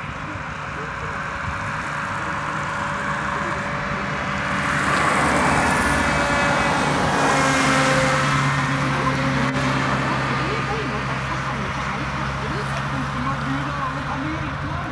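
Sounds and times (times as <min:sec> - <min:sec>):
drone propeller whining: 0:00.0 - 0:14.9.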